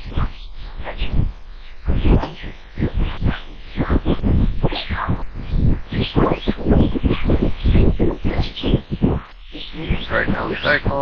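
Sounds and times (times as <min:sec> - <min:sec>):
wind buffeting microphone: 0:00.9 - 0:11.0.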